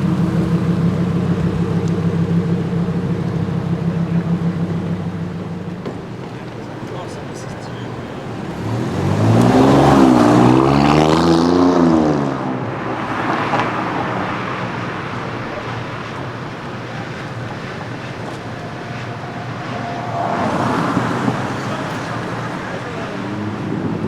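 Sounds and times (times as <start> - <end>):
car engine accelerating past: 0.0 - 24.0
street traffic noise: 0.0 - 24.0.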